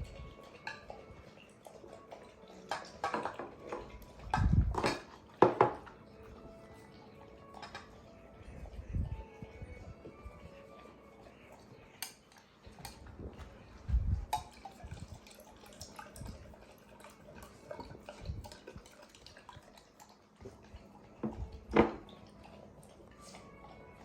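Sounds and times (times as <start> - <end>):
dog eating: 0.0 - 24.0.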